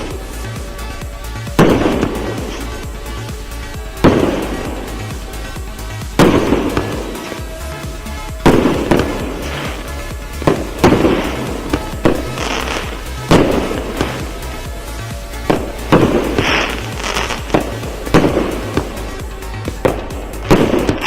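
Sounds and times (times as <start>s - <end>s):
firework bangs: 0.0s - 21.0s.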